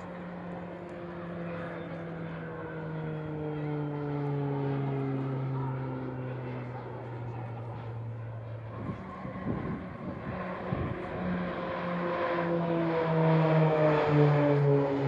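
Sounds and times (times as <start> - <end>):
aircraft engines humming: 0.0 - 15.0
propeller aircraft engine drone: 0.0 - 15.0.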